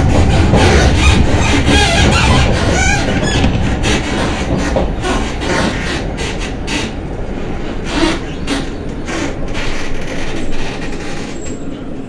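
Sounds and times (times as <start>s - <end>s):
low ride rumble: 0.0s - 12.0s.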